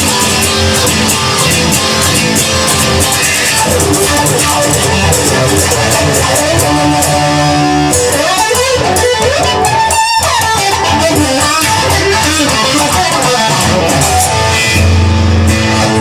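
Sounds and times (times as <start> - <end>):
electric guitar lead line: 0.0 - 16.0
rock band playing: 0.0 - 16.0.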